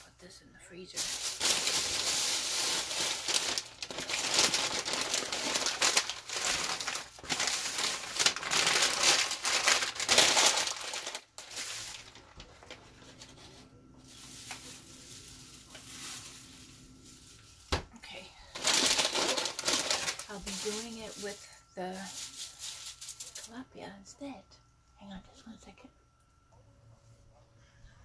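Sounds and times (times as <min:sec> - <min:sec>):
faint low hum: 0:00.0 - 0:28.0
plastic bags rustling: 0:00.9 - 0:23.6.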